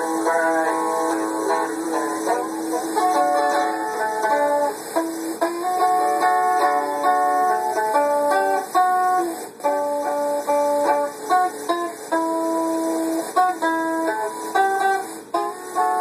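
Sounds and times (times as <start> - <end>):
acoustic guitar picking melody: 0.0 - 16.0.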